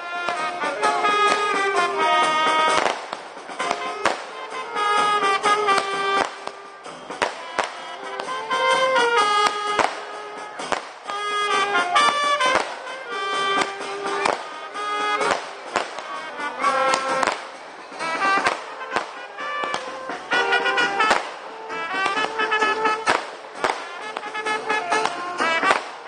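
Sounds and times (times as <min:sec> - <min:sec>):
fireworks bangs and crackles: 0:00.0 - 0:26.0
music playing a melody: 0:00.0 - 0:26.0.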